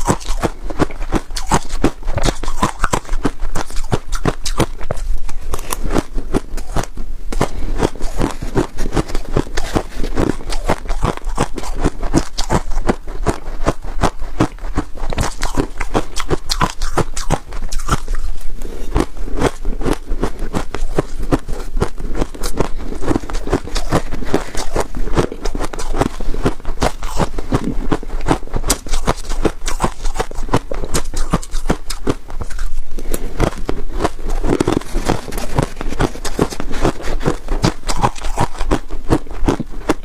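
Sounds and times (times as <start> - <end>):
chewing crisp frost: 0.0 - 40.0.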